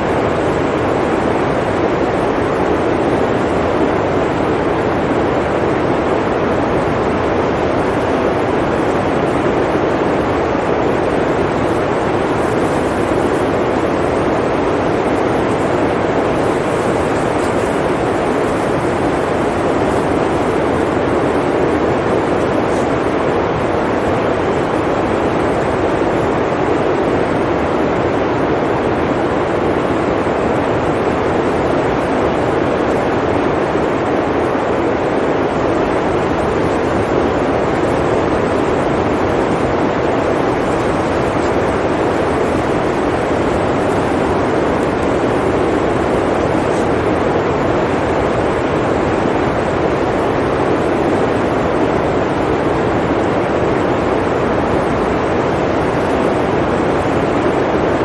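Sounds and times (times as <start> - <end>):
blizzard wind blowing: 0.0 - 58.0.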